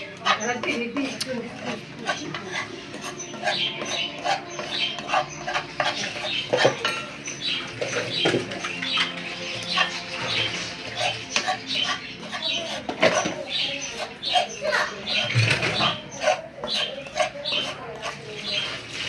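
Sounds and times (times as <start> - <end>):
utensils clinking and scraping dish: 0.0 - 19.0.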